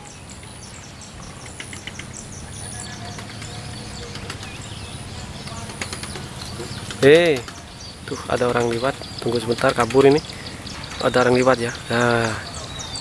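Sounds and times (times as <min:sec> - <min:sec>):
bird chirping high notes: 0:00.0 - 0:13.0.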